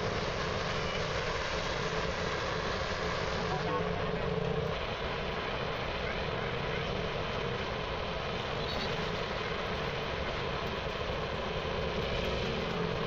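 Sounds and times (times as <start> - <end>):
mechanical rumble and hiss: 0.0 - 13.0.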